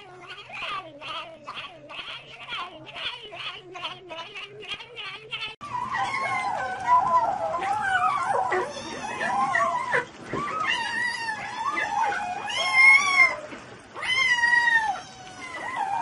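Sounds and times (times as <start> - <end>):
kittens meowing: 0.0 - 16.0.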